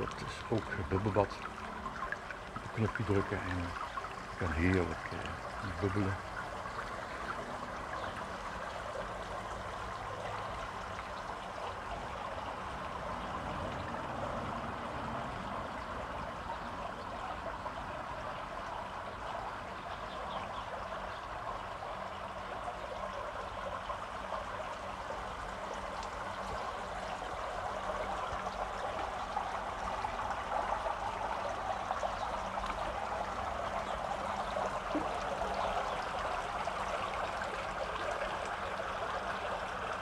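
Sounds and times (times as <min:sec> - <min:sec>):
whirlpool water bubbling: 0:00.0 - 0:40.0.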